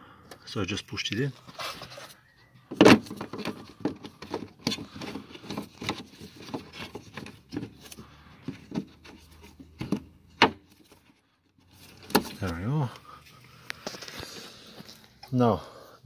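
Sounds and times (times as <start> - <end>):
hand handling plastic parts: 1.0 - 15.4.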